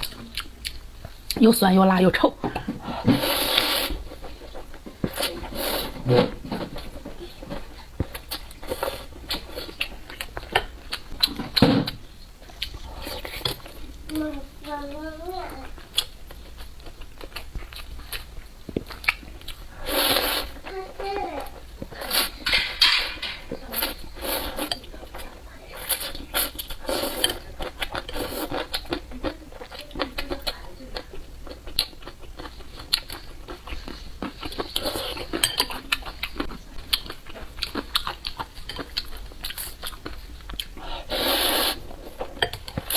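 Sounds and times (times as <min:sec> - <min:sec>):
person chewing noodles: 0:00.0 - 0:01.4, 0:02.8 - 0:14.7, 0:15.5 - 0:20.8, 0:23.6 - 0:24.9, 0:25.8 - 0:42.9.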